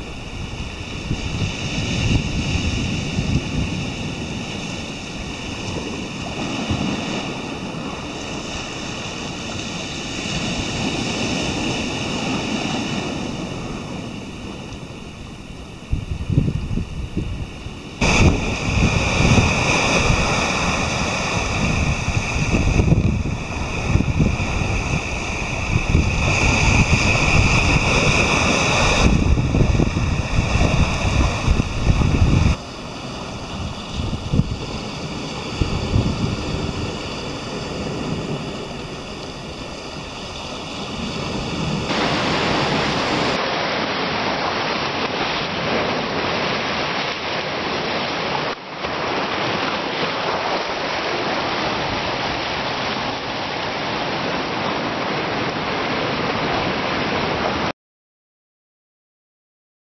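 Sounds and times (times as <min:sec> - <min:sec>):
surf breaking over rocks: 0:00.0 - 0:57.7
wind buffeting microphone: 0:00.0 - 0:57.7.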